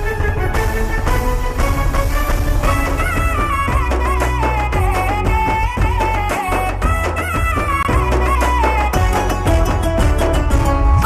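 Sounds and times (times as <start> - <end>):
plucked strings: 0.0 - 11.0
up-tempo song with steady beat: 0.0 - 11.0.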